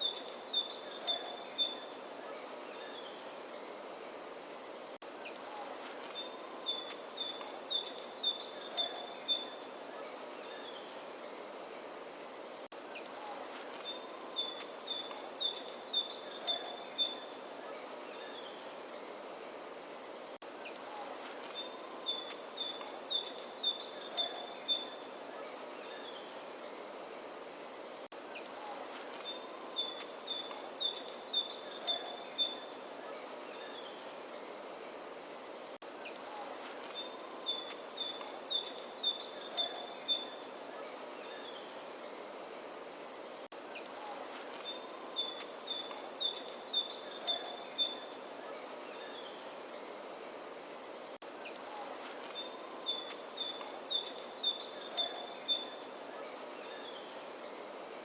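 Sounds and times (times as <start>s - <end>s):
faint steady hiss: 0.0s - 58.0s
songbird singing: 0.0s - 58.0s.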